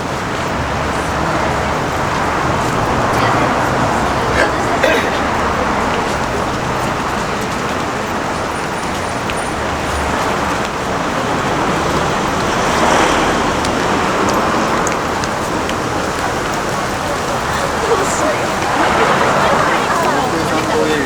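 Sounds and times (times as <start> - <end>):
passing road traffic: 0.0 - 21.0.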